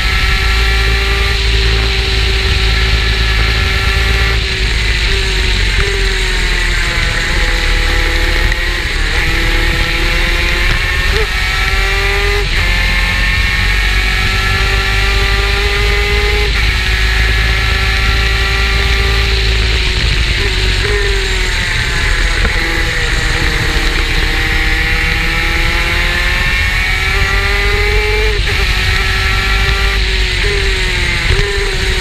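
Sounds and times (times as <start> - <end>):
heavy low rumble: 0.0 - 32.0
racing kart engine: 0.0 - 32.0.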